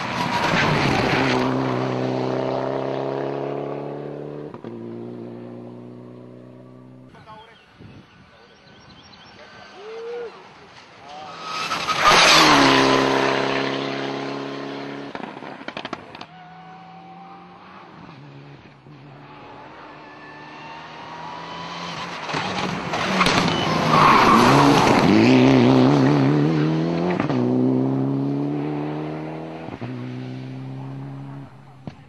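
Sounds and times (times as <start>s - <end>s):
rally car engine passing at speed: 0.0s - 7.1s, 9.4s - 32.0s.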